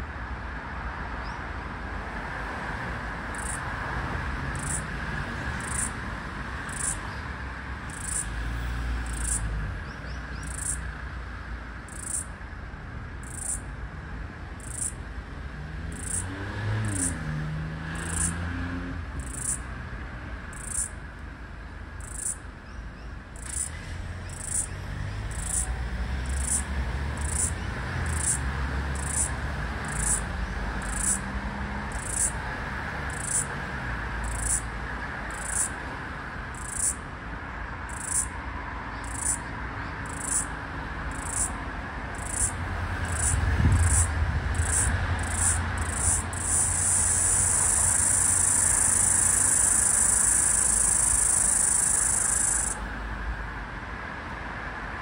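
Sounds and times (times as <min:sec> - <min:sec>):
low traffic rumble: 0:00.0 - 0:55.0
cicada buzzing pulses: 0:03.2 - 0:12.4, 0:13.2 - 0:13.7, 0:14.6 - 0:15.0, 0:15.6 - 0:21.0, 0:22.0 - 0:22.5, 0:23.4 - 0:37.0, 0:37.9 - 0:52.9.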